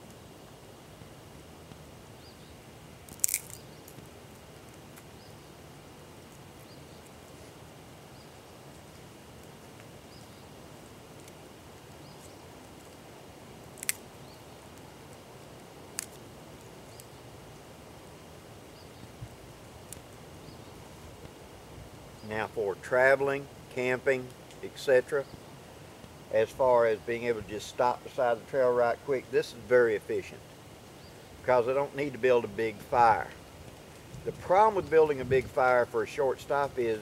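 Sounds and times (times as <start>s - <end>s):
twig fire crackling: 0.0s - 37.0s.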